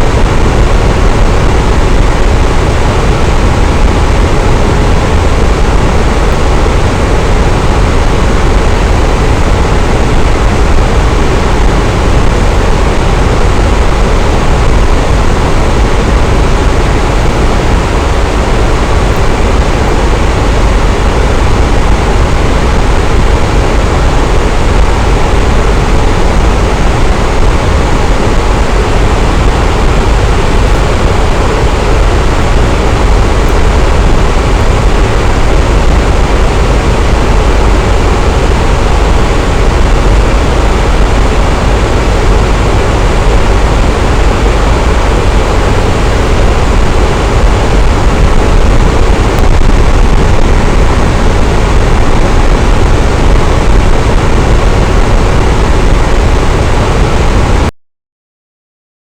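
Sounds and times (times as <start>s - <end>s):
electric fan whooshing: 0.0s - 57.7s.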